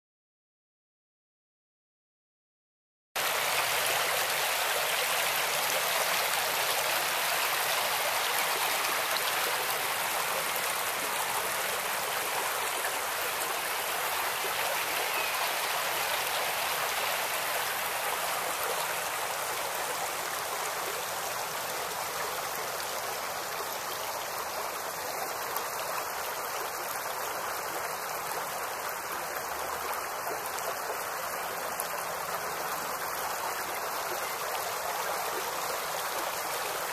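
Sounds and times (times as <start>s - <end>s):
creek water babbling: 3.2s - 36.9s.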